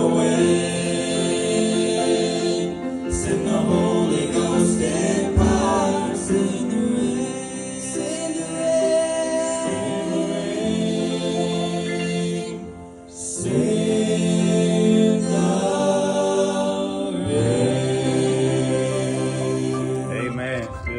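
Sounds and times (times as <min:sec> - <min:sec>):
men singing gospel in harmony: 0:00.0 - 0:20.9.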